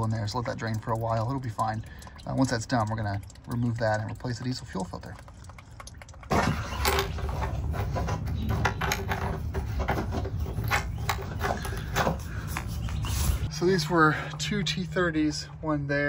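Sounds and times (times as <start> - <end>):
fuel trickling into plastic pan: 0.0 - 13.5.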